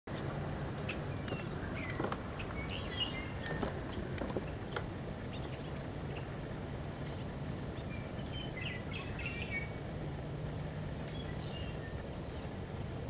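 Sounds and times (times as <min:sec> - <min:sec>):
small birds chirping: 0:00.1 - 0:12.8
steady low hum: 0:00.1 - 0:13.0.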